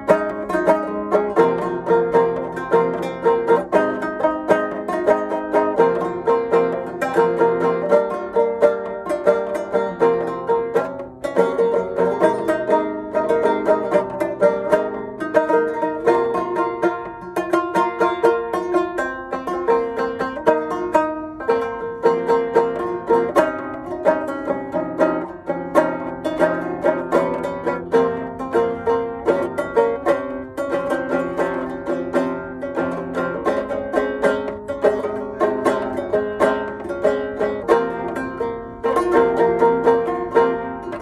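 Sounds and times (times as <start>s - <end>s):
banjo plucked notes: 0.0s - 41.0s.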